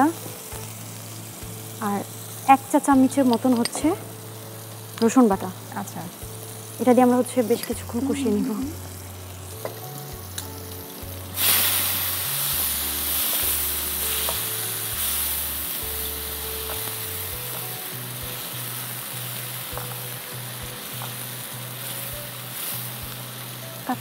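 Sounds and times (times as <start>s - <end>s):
background music with low bass: 0.0s - 24.0s
paste sizzling in oil: 0.0s - 24.0s.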